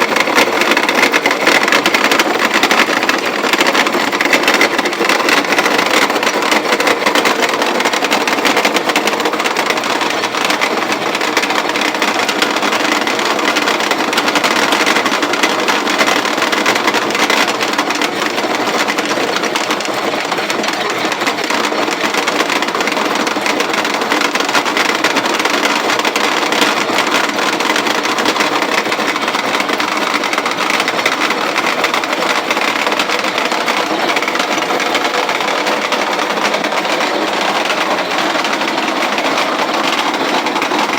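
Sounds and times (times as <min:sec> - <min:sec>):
grain roller mill clatter and rumble: 0:00.0 - 0:40.9.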